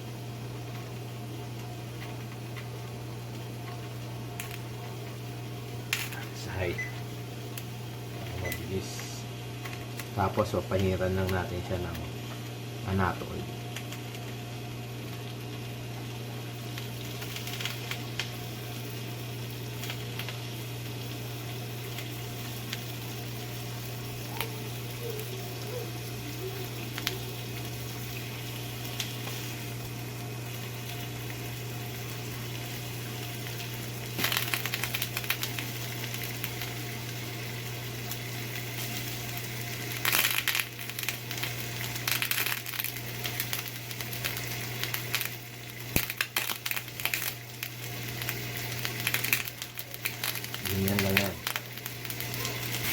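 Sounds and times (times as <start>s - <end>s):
meat sizzling in hot oil: 0.0s - 52.9s
steady low hum: 0.0s - 52.9s.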